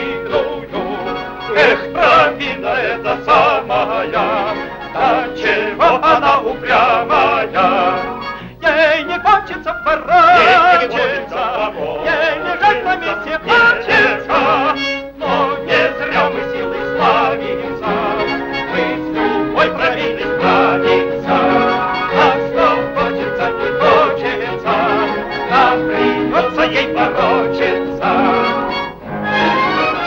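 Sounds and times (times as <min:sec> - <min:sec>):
orchestral cartoon music: 0:00.0 - 0:30.0.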